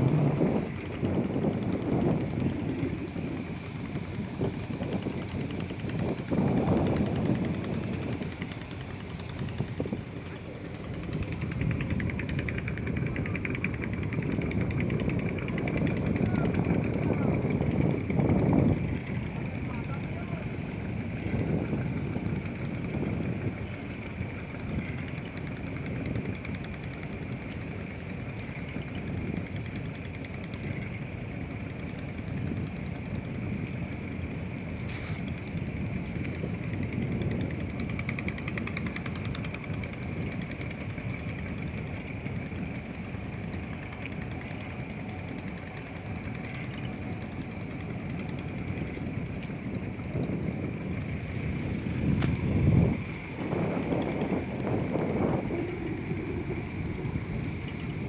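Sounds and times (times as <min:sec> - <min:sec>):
boat engine rumble: 0:00.0 - 0:58.0.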